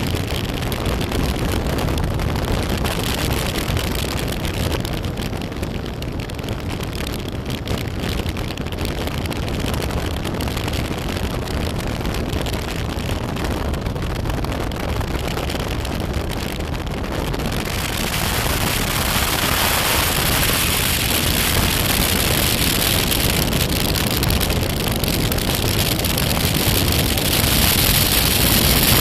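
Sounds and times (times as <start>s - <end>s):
motorcycle engine running: 0.0s - 29.0s
wind noise on microphone: 0.0s - 29.0s.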